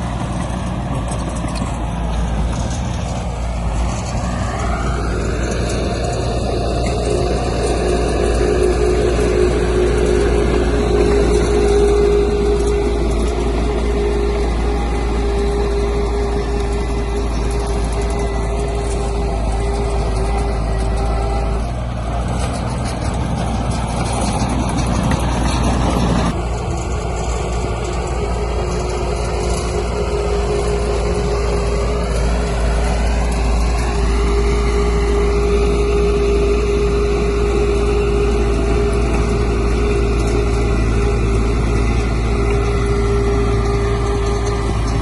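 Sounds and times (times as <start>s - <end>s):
heavy diesel engine running: 0.0s - 45.0s.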